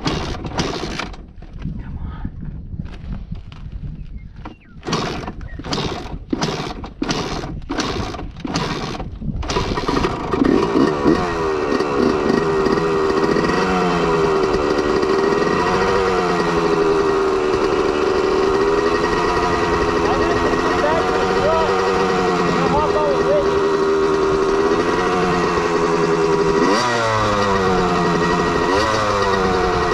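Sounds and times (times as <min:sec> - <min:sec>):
quad engine sputtering and starting: 0:00.0 - 0:01.3, 0:04.8 - 0:29.9.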